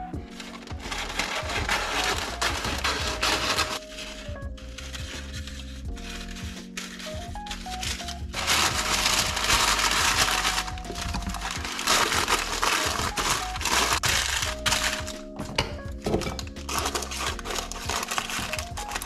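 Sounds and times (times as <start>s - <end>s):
baking paper crinkling: 0.0s - 19.0s
soft background music: 0.0s - 19.0s.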